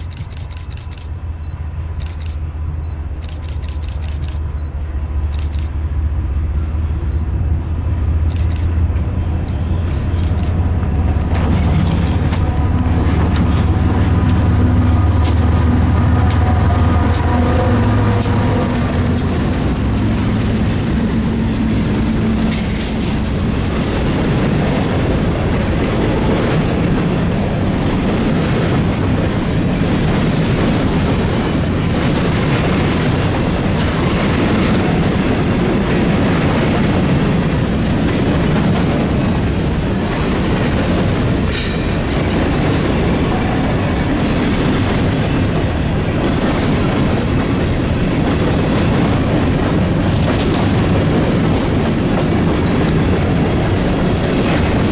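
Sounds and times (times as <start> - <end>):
train wheels clacking on rail joints: 0.0 - 6.5, 8.2 - 54.9.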